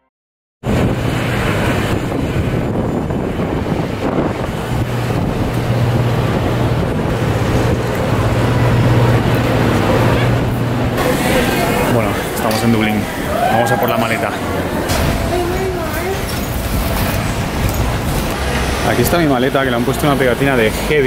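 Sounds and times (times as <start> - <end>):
jet airliners humming: 0.6 - 21.0
wind buffeting microphone: 0.6 - 21.0.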